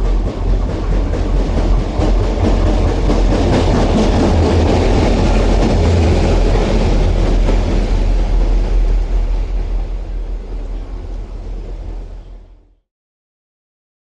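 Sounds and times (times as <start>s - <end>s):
diesel locomotive passing: 0.0s - 12.8s.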